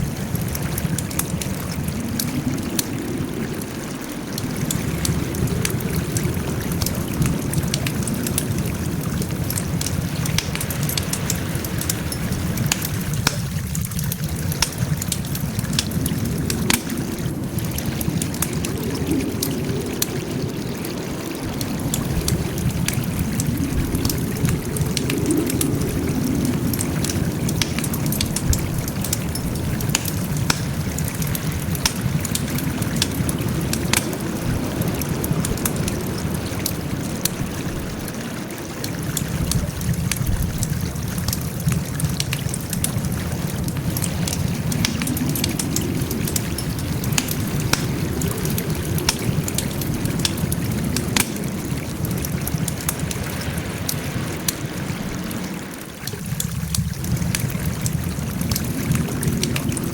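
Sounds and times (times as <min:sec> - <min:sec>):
low rumble of burning: 0:00.0 - 0:59.9
wood fire crackling: 0:00.0 - 0:59.9.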